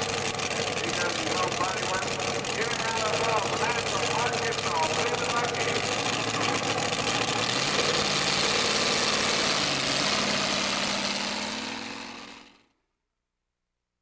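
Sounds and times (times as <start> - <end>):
truck engine idling: 0.0 - 12.6.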